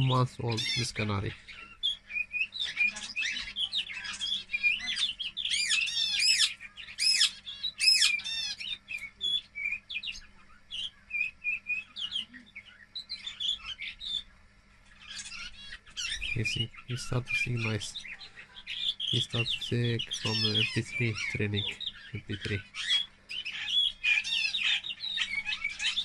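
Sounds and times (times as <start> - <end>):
canary singing chirps and trills: 0.0 - 26.0.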